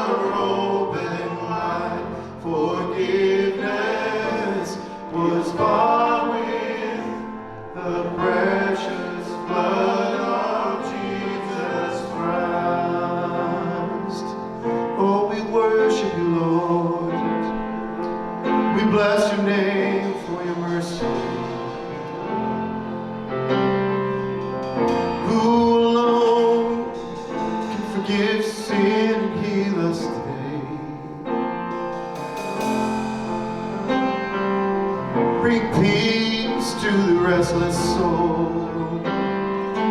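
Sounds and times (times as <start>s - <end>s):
instrumental accompaniment: 0.0s - 39.9s
voices singing gospel song: 0.0s - 39.9s.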